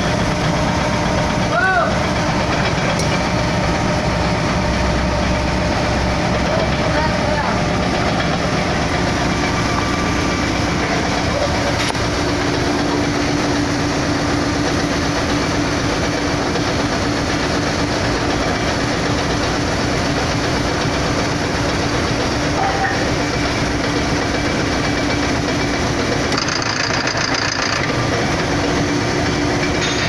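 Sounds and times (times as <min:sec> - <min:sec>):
machinery running: 0:00.0 - 0:30.0.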